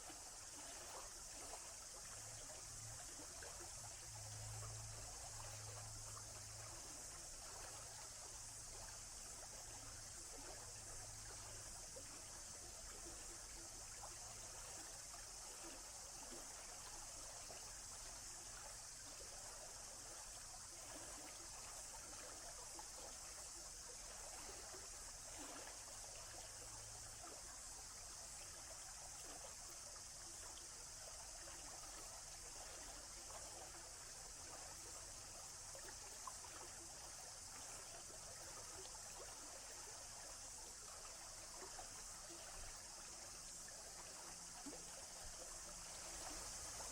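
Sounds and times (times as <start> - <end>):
forest stream trickling: 0.0 - 46.9.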